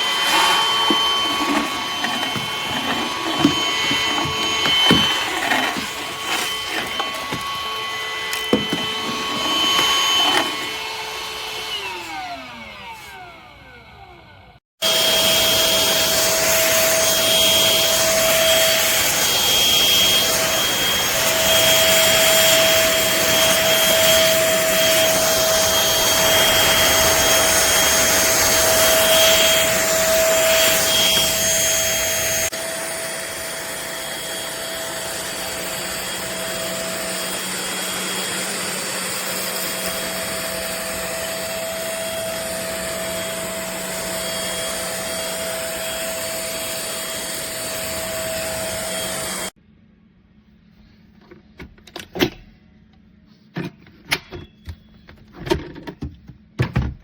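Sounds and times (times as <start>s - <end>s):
stick vacuum motor whining: 0.0s - 49.5s.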